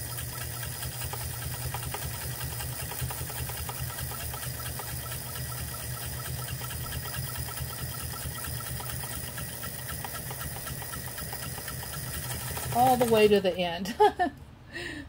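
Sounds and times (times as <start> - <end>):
sewing machine stitching leather: 0.0 - 13.4.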